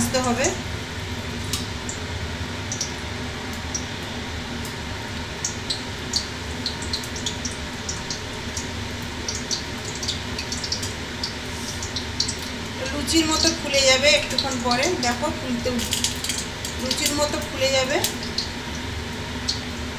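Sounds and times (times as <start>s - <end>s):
kitchen fan humming: 0.0s - 19.9s
oil sizzling and popping: 0.0s - 19.9s.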